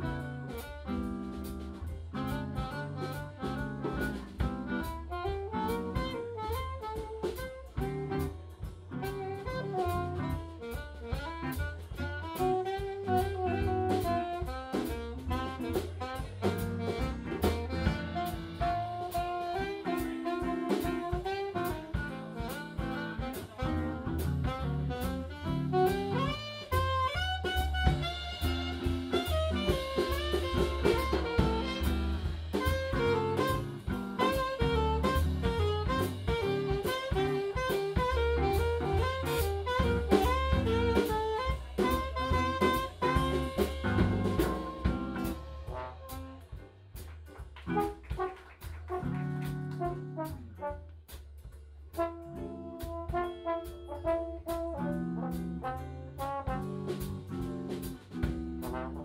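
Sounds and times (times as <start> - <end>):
horn melody: 0.0 - 46.7, 47.6 - 50.9, 51.9 - 59.0
bass: 0.0 - 59.0
drum kit beat: 0.0 - 59.0.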